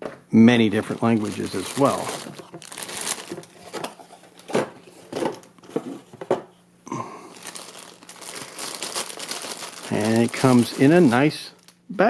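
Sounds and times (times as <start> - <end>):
plastic packaging crinkling: 0.5 - 5.9, 7.1 - 11.9.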